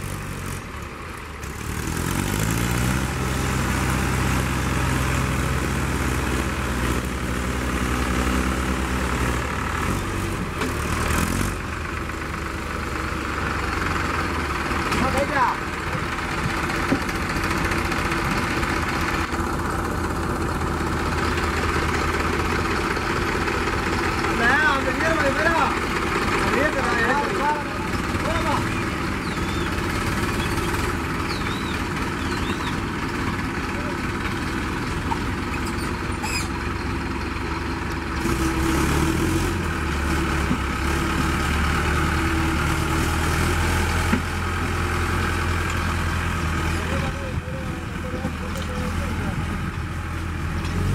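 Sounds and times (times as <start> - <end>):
diesel engines idling: 0.0 - 50.9.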